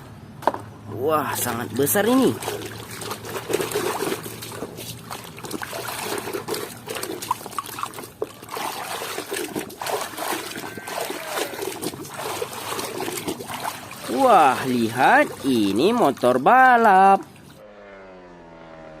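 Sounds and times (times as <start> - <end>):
water splashing and trickling: 1.0 - 17.6.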